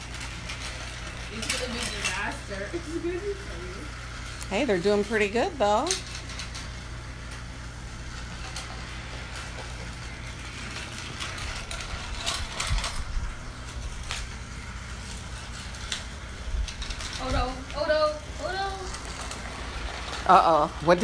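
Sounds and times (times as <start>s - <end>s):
small toy motor whir: 0.0s - 21.0s.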